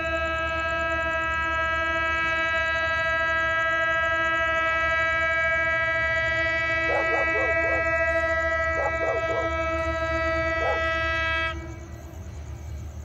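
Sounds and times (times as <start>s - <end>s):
diesel train engine rumble: 0.0s - 13.0s
high droning tones: 0.0s - 13.0s.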